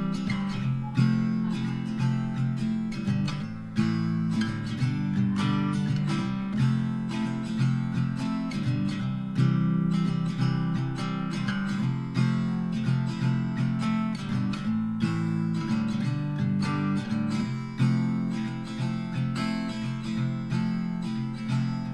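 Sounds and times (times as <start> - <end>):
strummed acoustic guitar: 0.0 - 21.9.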